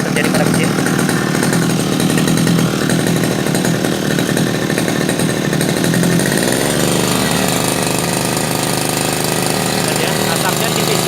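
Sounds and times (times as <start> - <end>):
brush cutter engine buzzing: 0.0 - 11.0.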